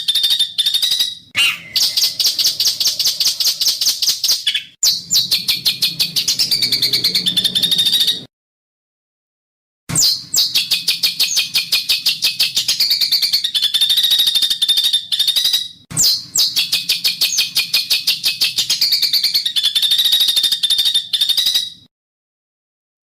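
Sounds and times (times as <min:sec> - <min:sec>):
songbird rasping rattle song: 0:00.0 - 0:08.2, 0:10.2 - 0:21.8.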